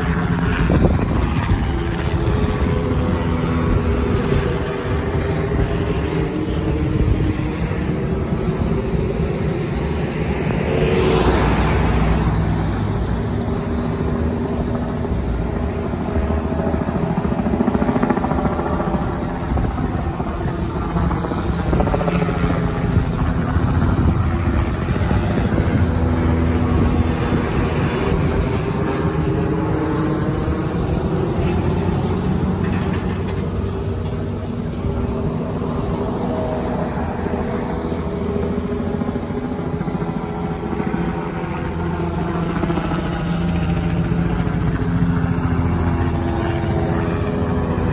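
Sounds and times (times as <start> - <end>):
helicopter rotor drone: 0.0 - 47.9
passing street traffic: 0.0 - 47.9.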